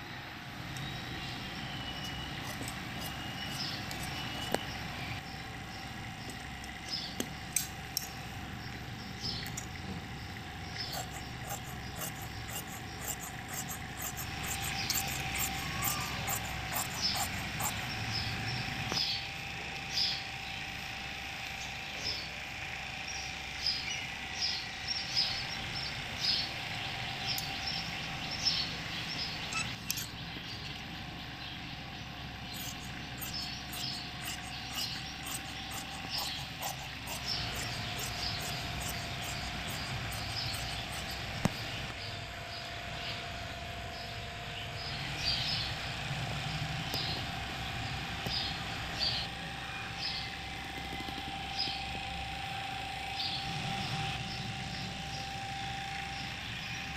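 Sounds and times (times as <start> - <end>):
faint steady hum: 0.0 - 56.9
small birds chirping: 0.6 - 43.2, 43.9 - 52.2, 53.0 - 55.3.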